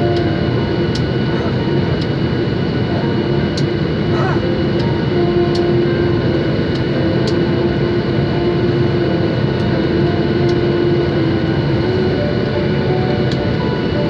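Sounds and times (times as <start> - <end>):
jet engine rumble and hiss: 0.0 - 14.0
jet engine whine: 0.0 - 14.0.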